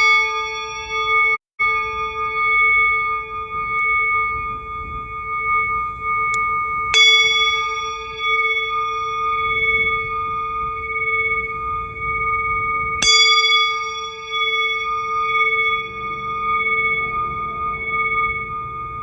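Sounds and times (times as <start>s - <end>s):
singing bowl ringing: 0.0s - 19.0s
singing bowl strike: 0.0s - 19.0s.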